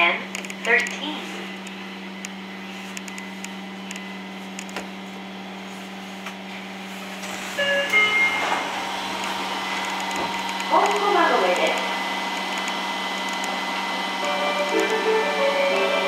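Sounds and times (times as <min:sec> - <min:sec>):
train humming on board: 0:00.0 - 0:16.0.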